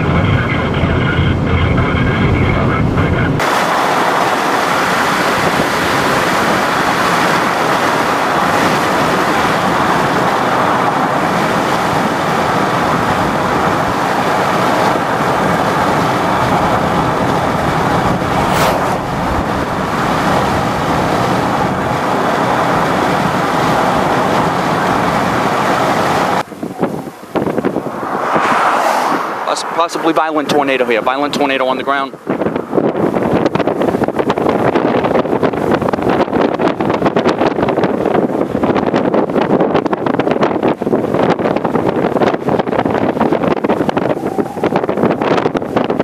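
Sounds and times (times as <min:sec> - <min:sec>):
wind and road noise: 0:00.0 - 0:46.0
wind buffeting microphone: 0:00.0 - 0:46.0.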